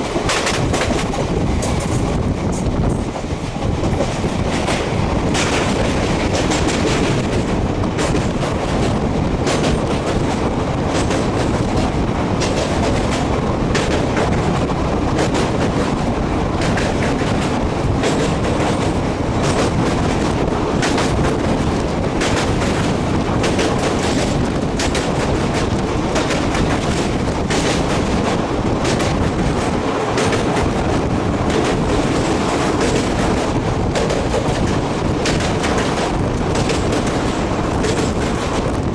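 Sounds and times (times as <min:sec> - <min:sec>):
train coaches rumbling: 0:00.0 - 0:38.9
wheels clicking over rail joints: 0:00.0 - 0:38.9.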